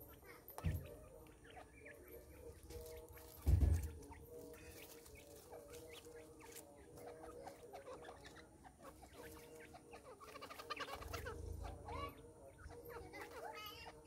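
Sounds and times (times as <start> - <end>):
birds clucking: 0.0 - 14.0.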